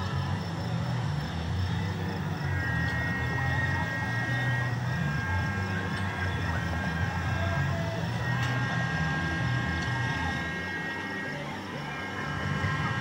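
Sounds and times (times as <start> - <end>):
faint steady whines: 0.0 - 13.0
low mechanical rumble: 0.0 - 13.0.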